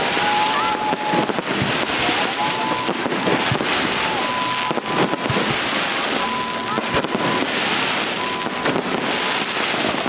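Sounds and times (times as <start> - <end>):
firework pops and crackles: 0.0 - 10.0.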